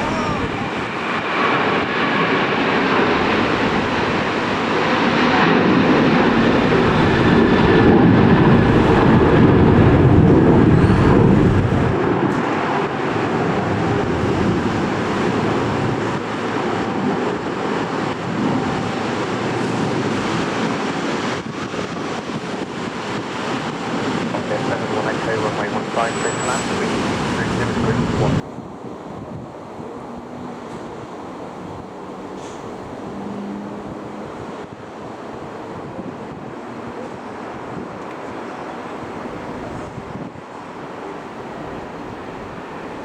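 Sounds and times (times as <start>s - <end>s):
wind buffeting microphone: 0.0s - 26.0s, 26.6s - 43.0s
jet engines during takeoff: 0.0s - 43.0s.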